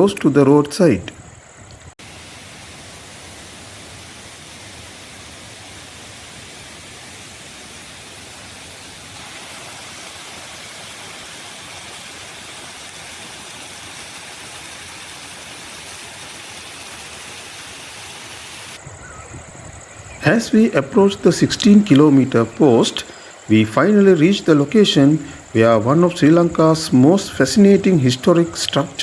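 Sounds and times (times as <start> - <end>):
flowing water rushing: 2.0 - 29.0.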